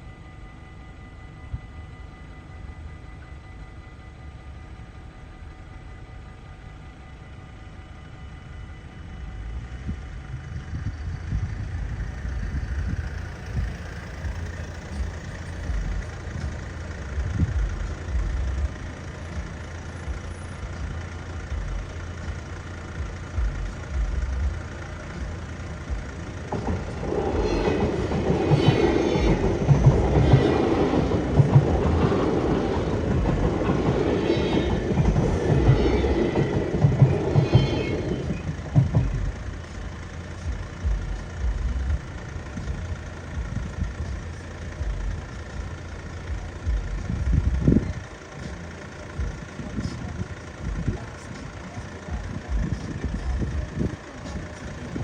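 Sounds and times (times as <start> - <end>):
electric train passing: 0.0 - 55.0
wheels clattering over rails: 10.8 - 55.0.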